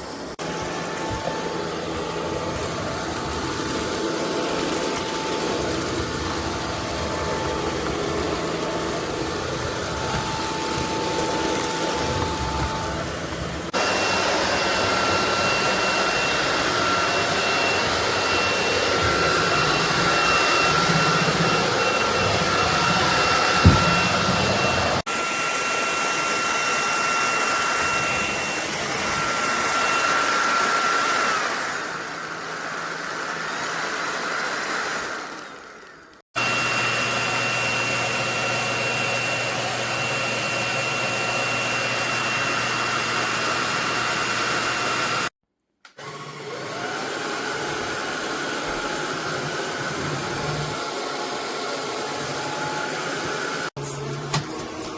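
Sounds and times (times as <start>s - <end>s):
stick vacuum running: 0.0s - 45.3s, 45.9s - 54.9s.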